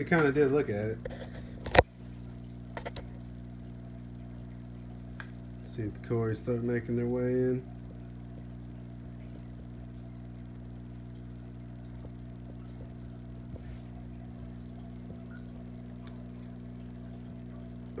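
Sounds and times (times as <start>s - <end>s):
aquarium equipment humming: 0.0s - 18.0s.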